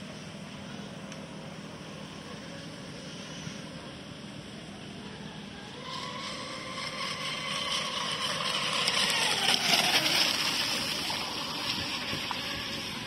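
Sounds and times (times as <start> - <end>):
model boat motor whining: 0.6 - 13.0.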